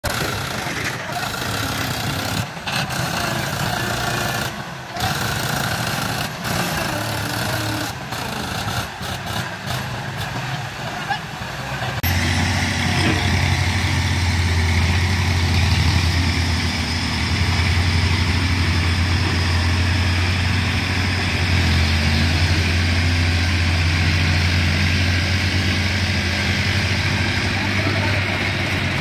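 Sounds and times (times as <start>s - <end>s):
diesel engines humming: 0.0s - 29.0s.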